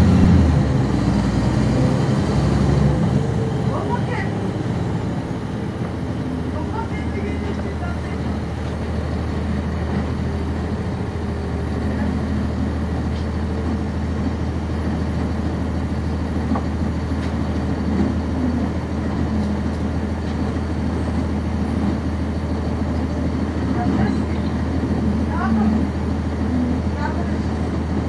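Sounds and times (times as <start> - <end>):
bus diesel engine droning: 0.0 - 28.0.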